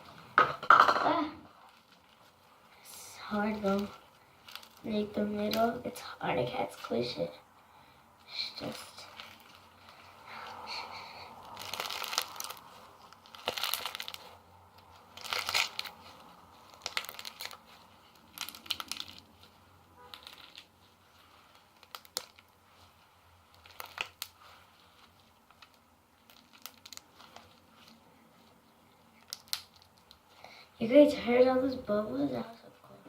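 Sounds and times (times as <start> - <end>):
slime crust crunching and crackling: 1.5 - 7.2, 8.3 - 30.4.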